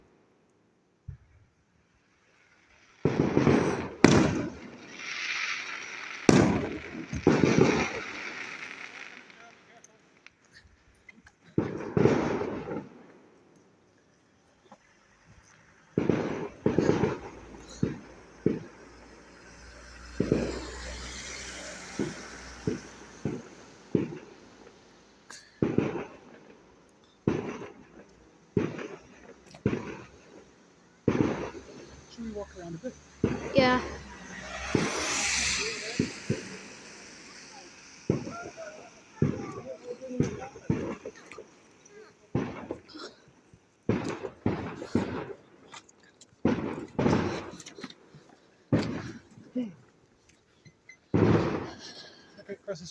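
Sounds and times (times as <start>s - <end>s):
fireworks hissing crackle: 0.0s - 52.9s
fireworks banging: 1.0s - 52.9s
fireworks bursting: 1.0s - 52.9s.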